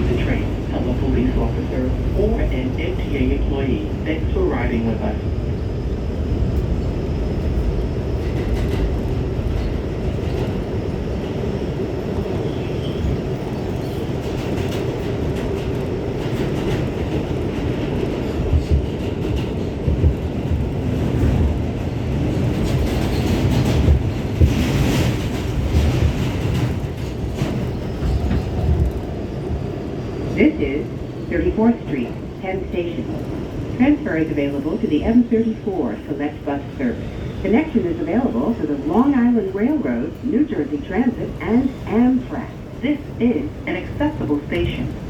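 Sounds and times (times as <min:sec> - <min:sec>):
subway train rumble: 0:00.0 - 0:45.0.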